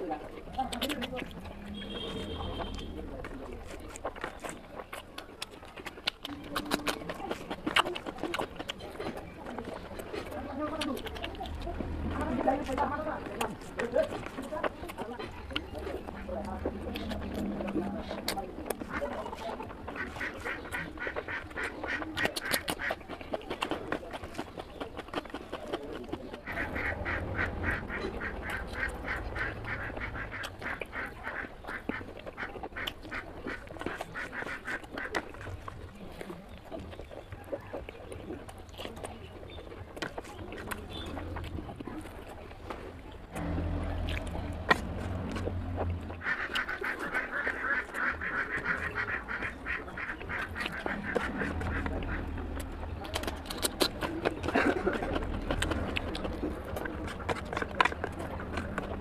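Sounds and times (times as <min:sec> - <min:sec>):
wet chewing and lip-smacking: 0:00.0 - 0:59.0.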